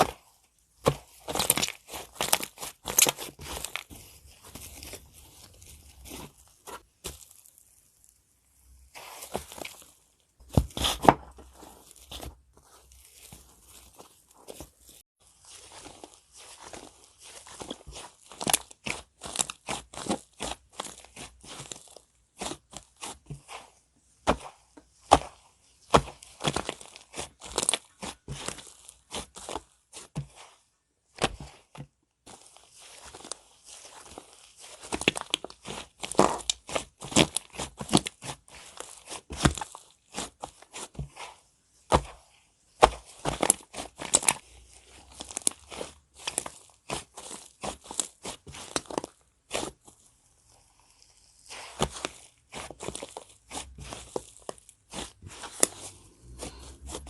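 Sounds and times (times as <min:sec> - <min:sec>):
clay slime squished by hand: 0:00.0 - 0:57.0.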